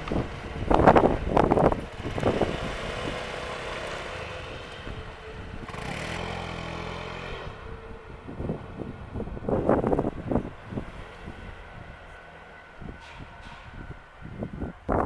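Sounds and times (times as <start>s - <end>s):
low engine-like hum: 0.0s - 15.0s
passing train rumble: 0.0s - 15.0s
wheel clatter over rail joints: 0.0s - 15.0s.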